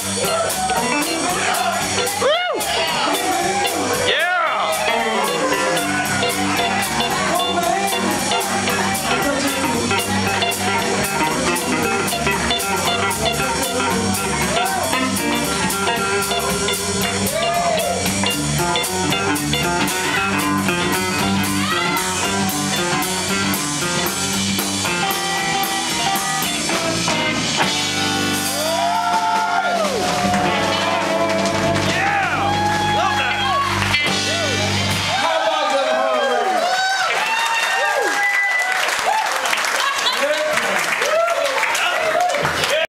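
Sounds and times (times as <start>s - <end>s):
live blues band playing: 0.0s - 40.0s.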